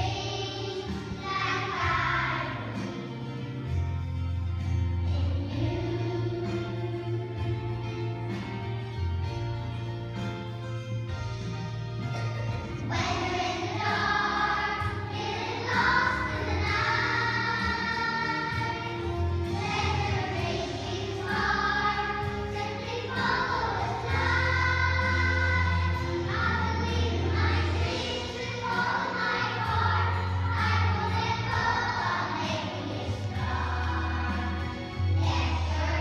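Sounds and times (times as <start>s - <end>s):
children singing together: 0.0s - 3.6s, 5.1s - 8.4s, 12.6s - 36.0s.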